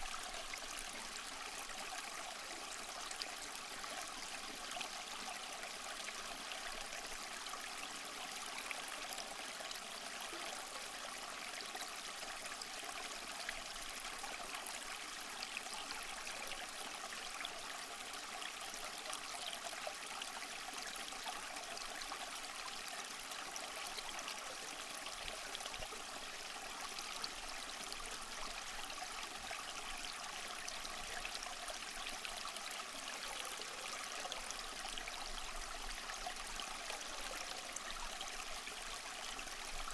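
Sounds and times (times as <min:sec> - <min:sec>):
small waterfall splashing over rocks: 0:00.0 - 0:39.9.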